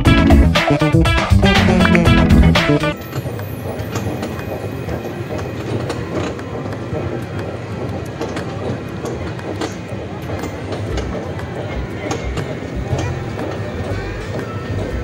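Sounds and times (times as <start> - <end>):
ride train rumbling: 0.0 - 15.0
train cars clicking and rattling: 0.0 - 15.0.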